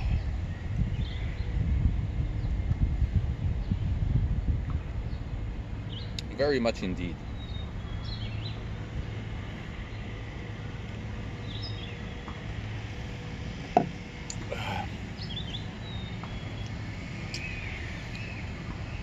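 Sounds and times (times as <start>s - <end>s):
birds chirping: 0.0s - 2.8s, 4.7s - 19.0s
distant traffic rumble: 0.0s - 19.0s.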